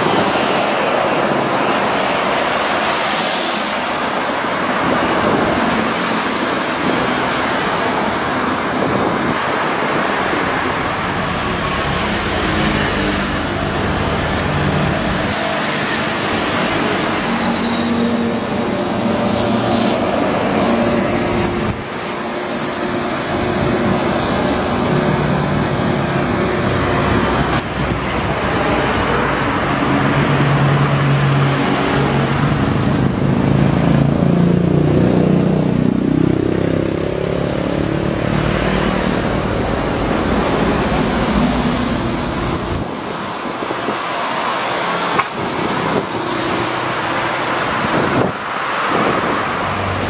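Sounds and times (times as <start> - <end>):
heavy vehicle engine hum: 0.0 - 50.0
road traffic passing: 0.0 - 50.0
wind on microphone: 3.8 - 17.3, 18.4 - 35.2, 37.6 - 50.0.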